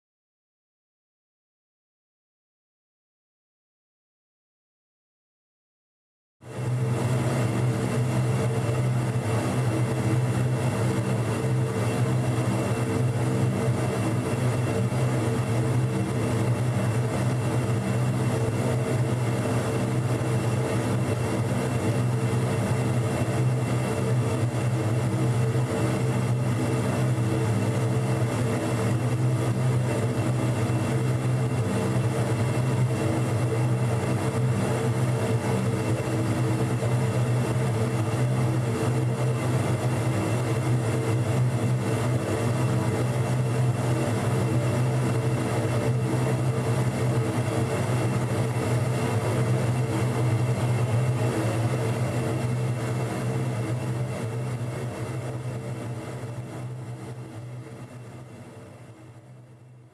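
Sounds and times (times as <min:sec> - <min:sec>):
large fan droning: 0:06.5 - 0:59.9.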